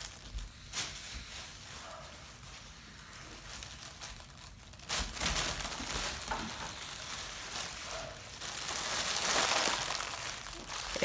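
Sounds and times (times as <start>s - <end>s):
balloon crinkling and rustling: 0.0s - 11.0s.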